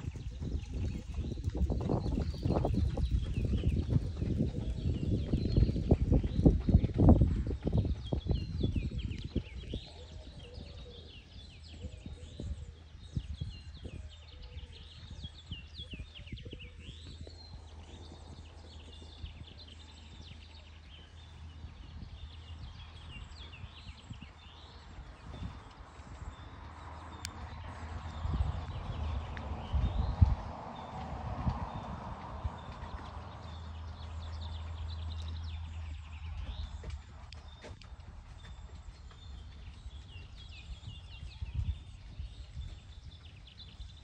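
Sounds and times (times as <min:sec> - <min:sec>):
horse hoofbeats on sand: 0:00.0 - 0:44.0
small birds chirping: 0:00.0 - 0:44.0.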